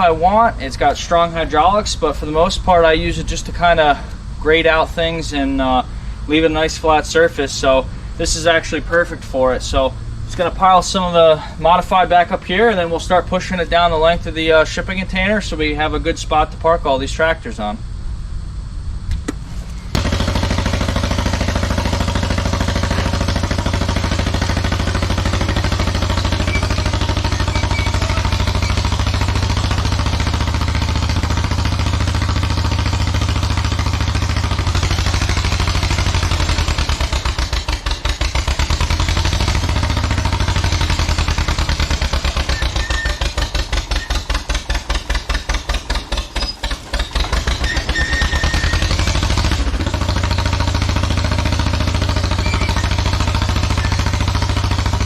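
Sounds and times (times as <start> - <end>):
dozer engine running hard: 0.0 - 16.0, 19.6 - 55.0.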